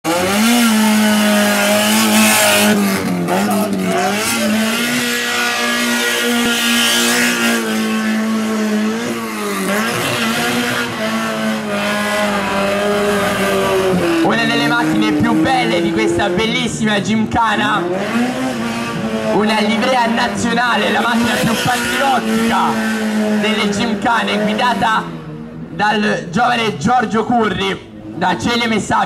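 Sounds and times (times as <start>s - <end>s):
car engine at high revs: 0.0s - 29.0s.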